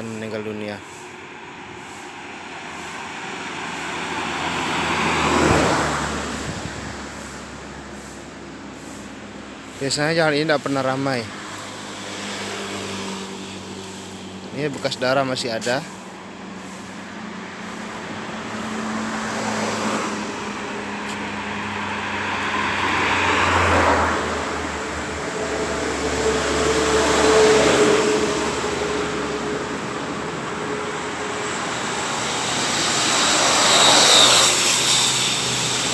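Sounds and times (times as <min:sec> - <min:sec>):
vehicles passing: 0:00.0 - 0:35.9.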